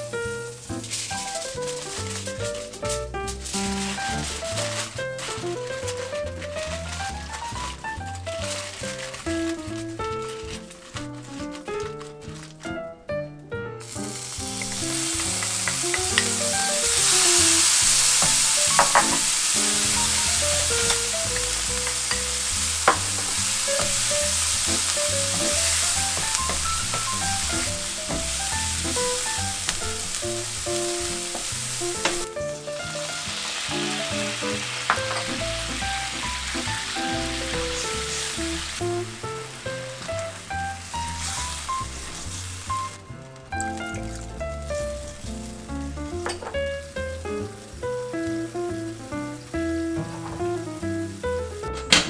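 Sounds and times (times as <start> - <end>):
onion and garlic sizzling in pan: 0.0 - 12.6, 13.8 - 52.0.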